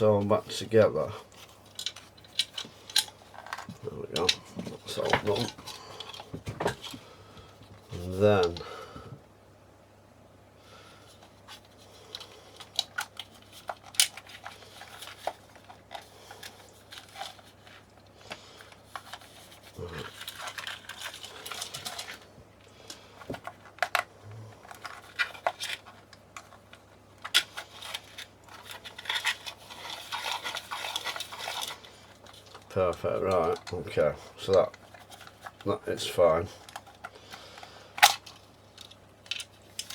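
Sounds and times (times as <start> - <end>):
plastic parts clicking and tapping: 1.3 - 7.5, 12.1 - 22.2, 22.8 - 35.7, 36.6 - 39.9.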